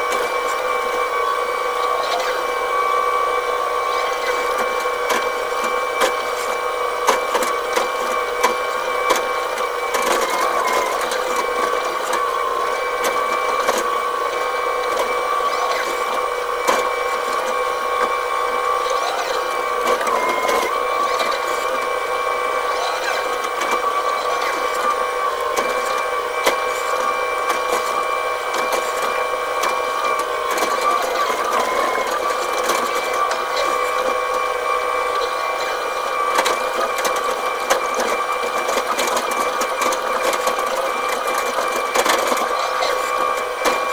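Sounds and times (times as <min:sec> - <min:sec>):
excavator engine and hydraulics whine: 0:00.0 - 0:43.9.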